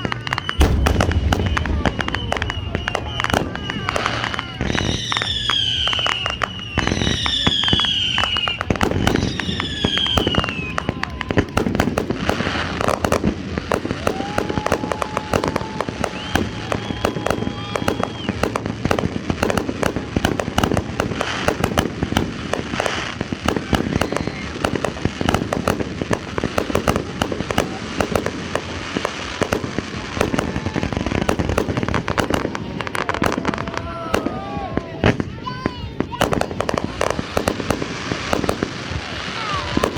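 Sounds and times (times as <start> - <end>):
fireworks bangs and crackles: 0.0 - 39.9
whistling fireworks: 0.0 - 39.9.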